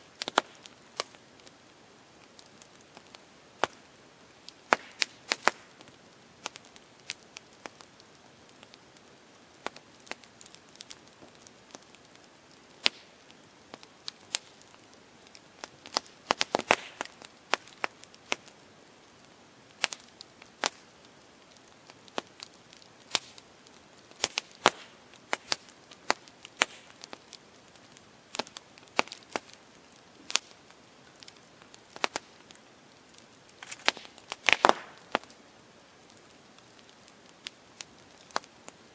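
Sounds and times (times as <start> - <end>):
campfire crackling and popping: 0.0 - 38.9
faint steady hiss: 0.0 - 38.9.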